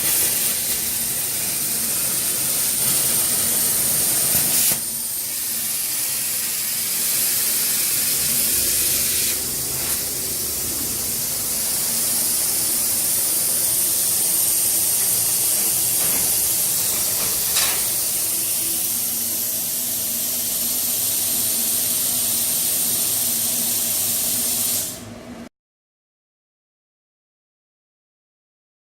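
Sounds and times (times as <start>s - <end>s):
plasma torch hissing: 0.0s - 25.1s.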